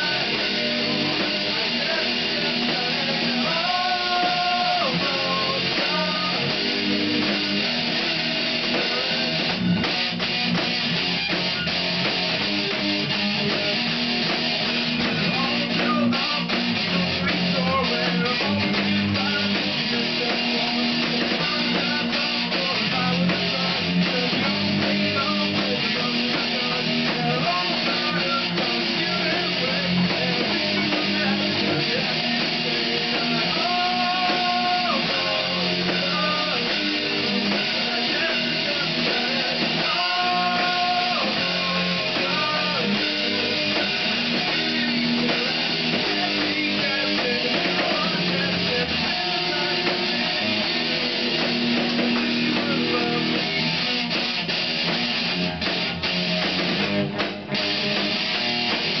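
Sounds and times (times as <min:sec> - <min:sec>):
drum kit: 0:00.0 - 0:59.0
electric guitar strummed: 0:00.0 - 0:59.0.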